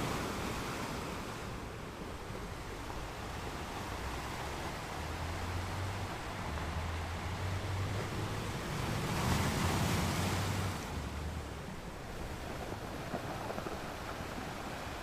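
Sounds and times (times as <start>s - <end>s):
low rumble of the sea: 0.0s - 15.0s
wave breaking and washing in: 0.0s - 15.0s.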